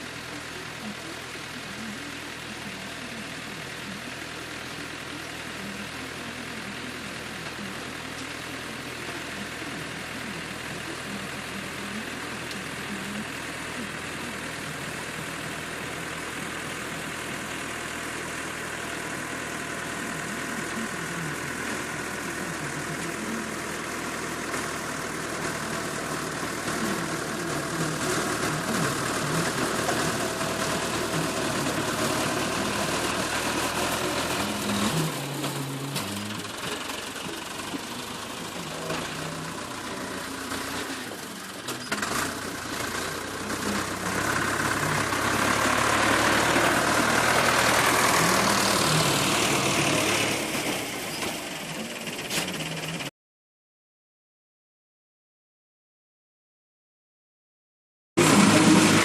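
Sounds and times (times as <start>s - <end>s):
tractor engine running: 0.0s - 53.1s, 58.2s - 59.0s.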